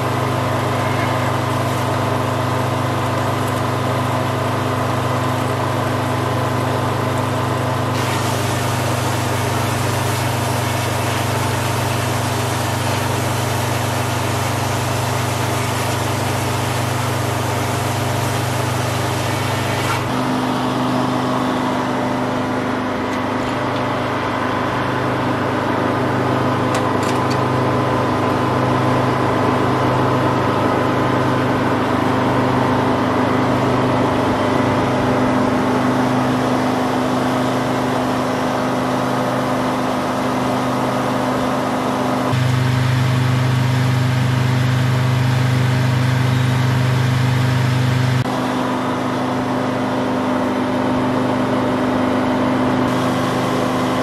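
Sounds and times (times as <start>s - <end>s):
diesel engine powering sawmill: 0.0s - 54.0s.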